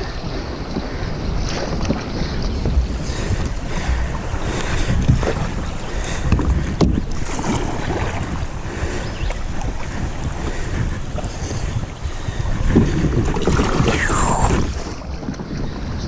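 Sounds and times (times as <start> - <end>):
water splashing and rushing: 0.0 - 16.0.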